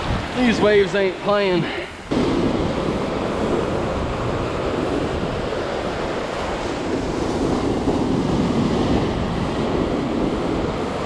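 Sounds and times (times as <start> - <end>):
rough surf breaking on beach: 0.0 - 11.0
wind buffeting microphone: 0.0 - 11.0.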